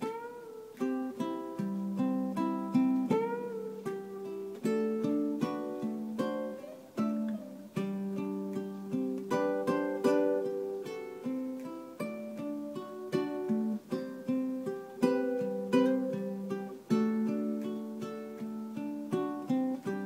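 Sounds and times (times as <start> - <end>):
ukulele fingerstyle melody: 0.0 - 20.0.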